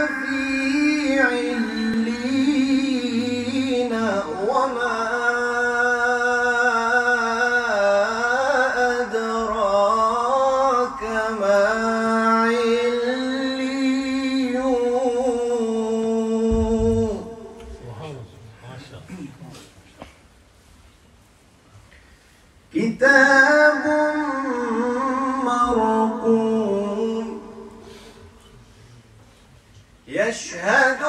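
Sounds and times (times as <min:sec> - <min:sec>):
man chanting into a microphone: 0:00.0 - 0:18.9, 0:22.7 - 0:28.8, 0:30.0 - 0:31.0.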